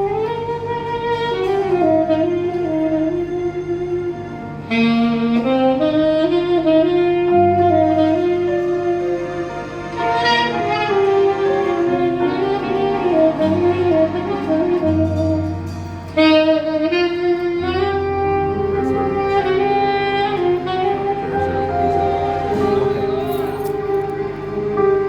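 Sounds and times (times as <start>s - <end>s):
held bass notes: 0.0s - 25.0s
saxophone melody: 0.0s - 25.0s.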